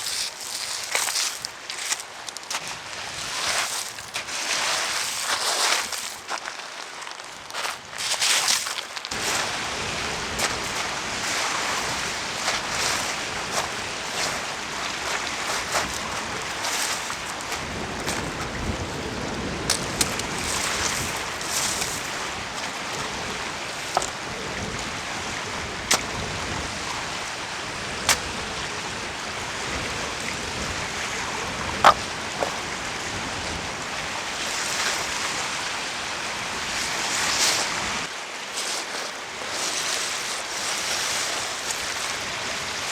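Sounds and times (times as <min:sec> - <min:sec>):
surf washing: 0:00.0 - 0:06.5, 0:07.4 - 0:42.9
wind: 0:00.0 - 0:42.9.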